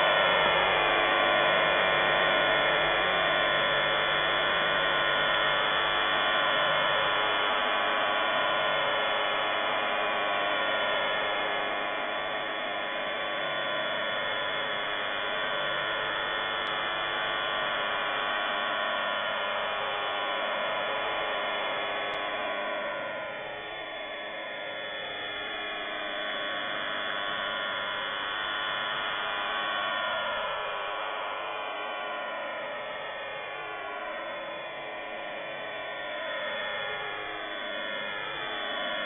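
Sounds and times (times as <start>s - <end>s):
buzzing hum of stacked tones: 0.0s - 39.0s.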